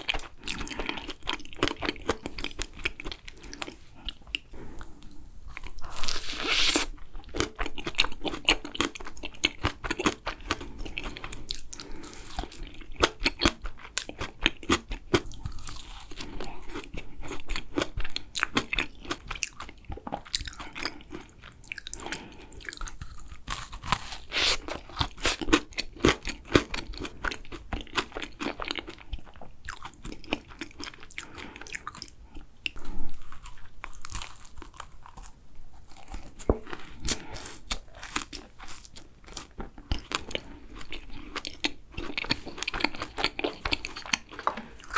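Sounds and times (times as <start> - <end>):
crisp crunchy chewing: 0.0 - 44.9.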